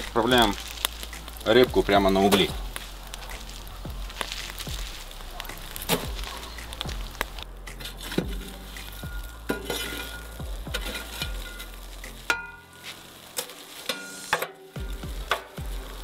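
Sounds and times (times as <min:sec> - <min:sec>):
coals clinking: 0:00.0 - 0:16.0
metal shovel scraping charcoal: 0:00.0 - 0:16.0.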